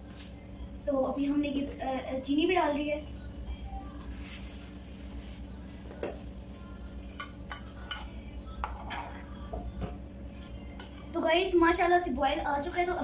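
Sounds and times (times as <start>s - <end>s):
low background of pot heating: 0.0s - 13.0s.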